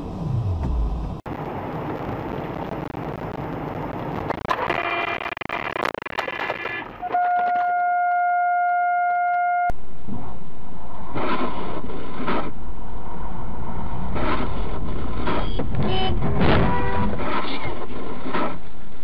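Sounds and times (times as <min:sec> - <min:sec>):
vehicle road and engine noise: 0:00.0 - 0:07.2, 0:09.7 - 0:19.0.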